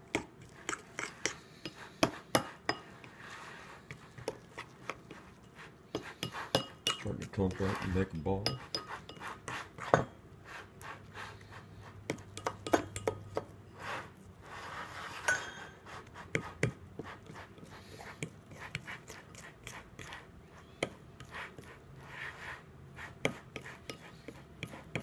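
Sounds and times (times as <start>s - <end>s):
utensil scraping mixing bowl: 0.0s - 25.0s.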